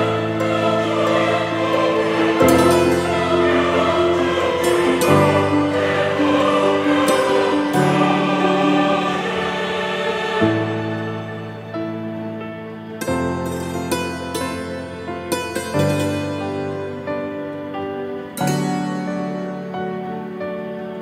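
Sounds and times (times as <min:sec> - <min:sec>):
choir-like vocal pad chords: 0:00.0 - 0:21.0.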